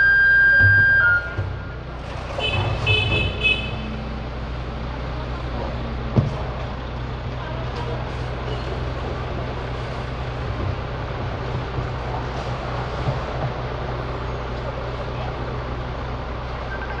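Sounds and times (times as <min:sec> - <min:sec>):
street noise: 0:00.0 - 0:17.0
truck engine idling: 0:00.0 - 0:17.0.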